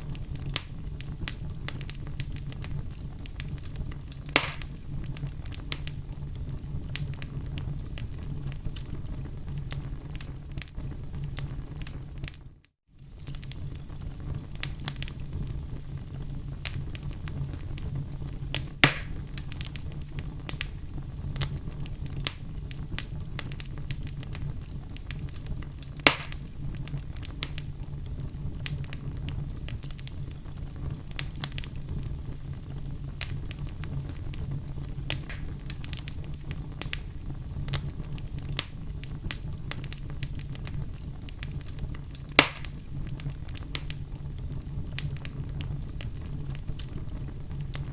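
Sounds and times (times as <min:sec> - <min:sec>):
fire pops: 0:00.0 - 0:47.9
fireplace fire crackling: 0:00.0 - 0:47.9.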